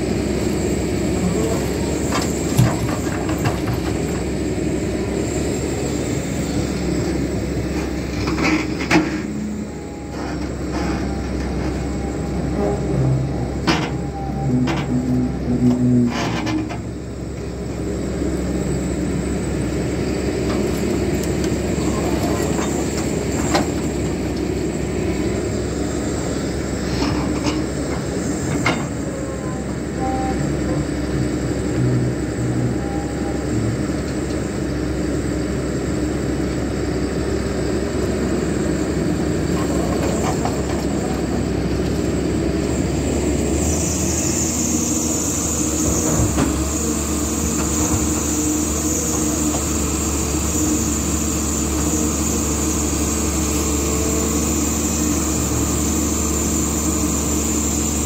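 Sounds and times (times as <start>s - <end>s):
excavator diesel engine: 0.0s - 58.0s.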